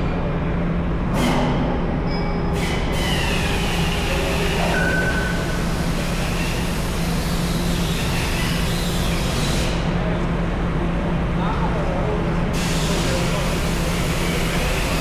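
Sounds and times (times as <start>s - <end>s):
heavy machinery engine drone: 0.0s - 15.0s.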